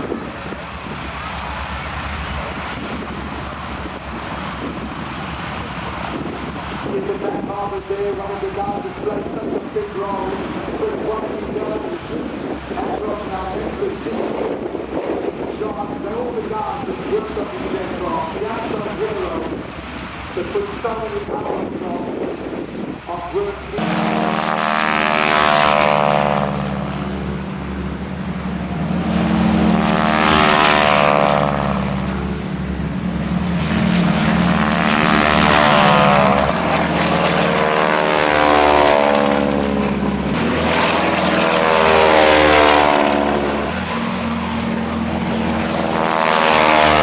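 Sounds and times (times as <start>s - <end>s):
propeller aircraft engines droning: 0.0s - 47.0s.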